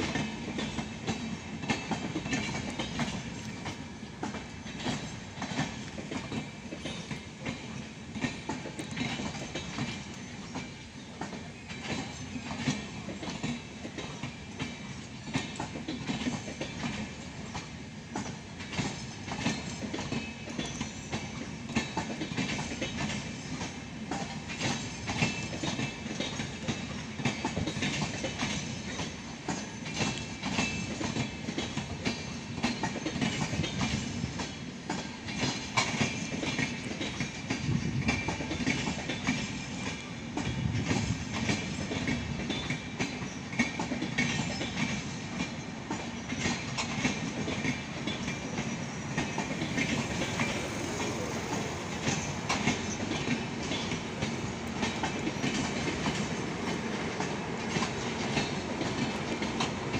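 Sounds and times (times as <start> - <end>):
low train rumble: 0.0 - 59.9
train wheels clicking over rail joints: 0.0 - 59.9.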